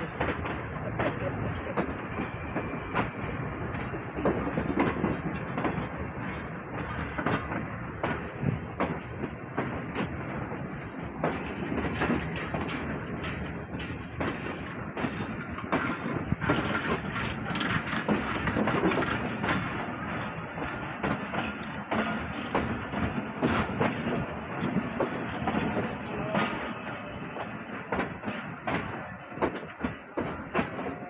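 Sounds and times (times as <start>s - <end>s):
train wheels clattering over rail joints: 0.0s - 31.0s.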